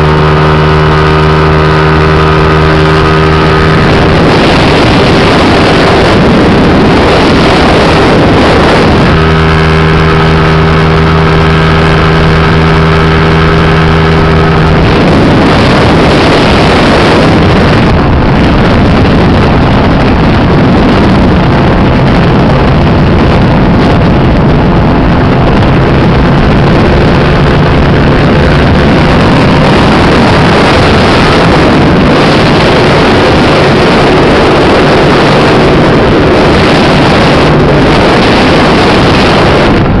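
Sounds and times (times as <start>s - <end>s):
scooter engine running: 0.0s - 40.0s
wind buffeting microphone: 0.0s - 40.0s.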